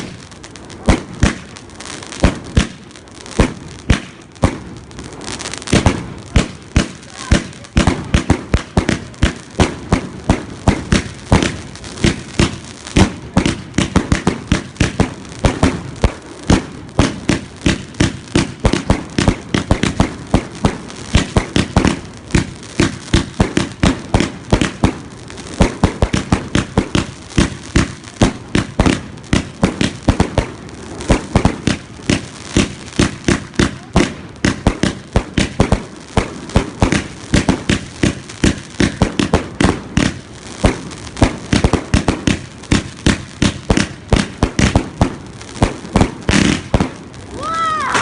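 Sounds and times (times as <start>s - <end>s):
fireworks banging: 0.0s - 48.0s.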